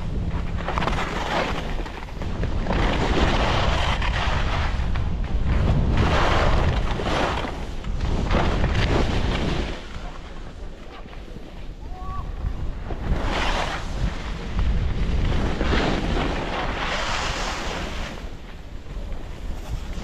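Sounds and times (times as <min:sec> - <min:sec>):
skis scraping on hard snow: 0:00.0 - 0:11.6, 0:12.5 - 0:20.0
wind buffeting microphone: 0:00.0 - 0:20.0.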